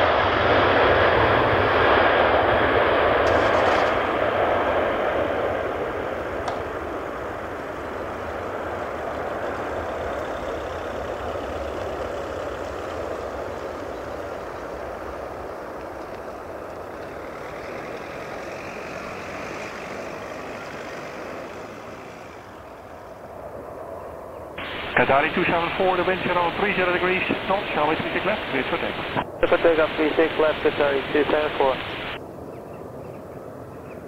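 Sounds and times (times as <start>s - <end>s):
jet engines roaring: 0.0s - 33.8s.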